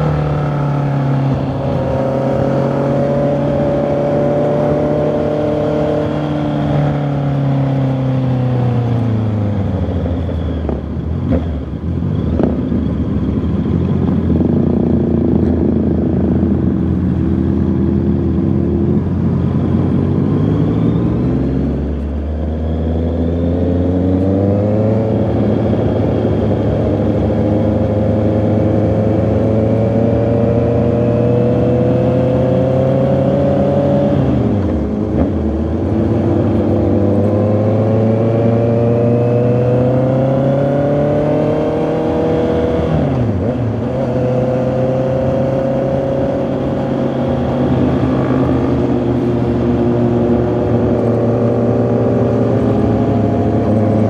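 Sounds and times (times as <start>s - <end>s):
motorcycle accelerating: 0.0s - 54.0s.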